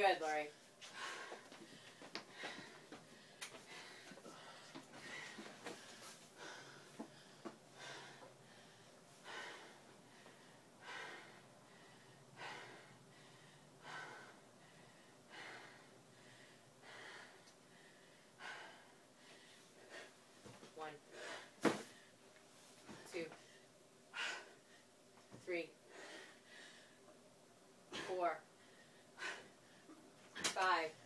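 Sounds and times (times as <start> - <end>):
heavy regular breathing: 0.0 - 31.0.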